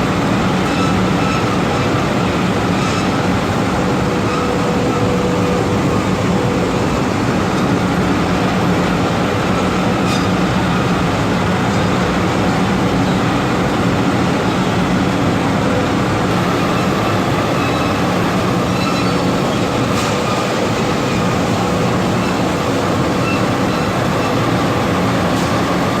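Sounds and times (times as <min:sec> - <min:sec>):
loud fans and machinery: 0:00.0 - 0:26.0.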